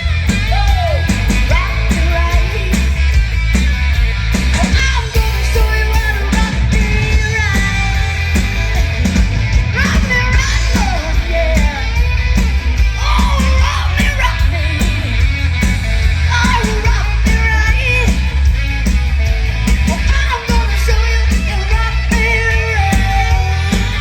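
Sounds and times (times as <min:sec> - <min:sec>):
live rock band playing: 0:00.0 - 0:24.0
pounding drums: 0:00.0 - 0:24.0.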